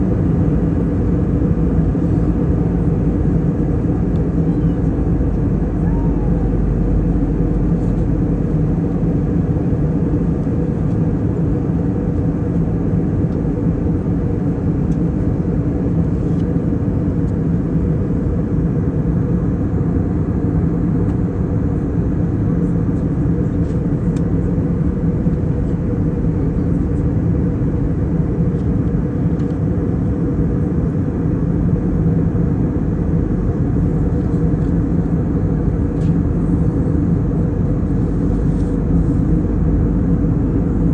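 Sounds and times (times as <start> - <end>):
airplane engine drone in cabin: 0.0 - 40.9.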